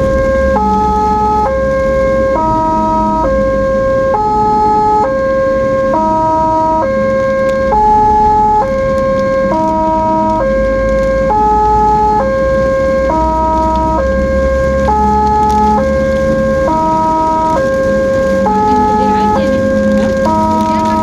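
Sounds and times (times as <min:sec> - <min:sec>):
ambulance siren stepped tones: 0:00.0 - 0:21.0
low engine and road rumble: 0:00.0 - 0:21.0.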